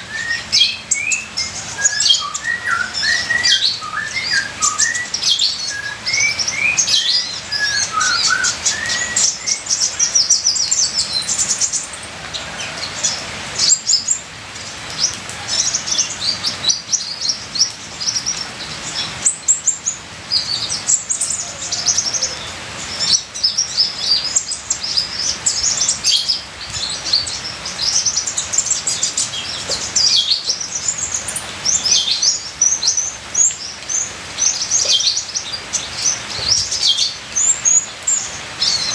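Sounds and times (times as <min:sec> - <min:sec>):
bird singing high chirps and trills: 0:00.0 - 0:38.9
trickling rainwater: 0:00.0 - 0:38.9.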